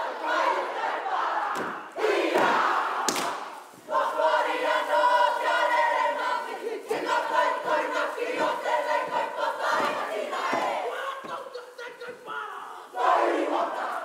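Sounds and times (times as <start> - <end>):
group chanting loudly in unison: 0.0 - 14.0.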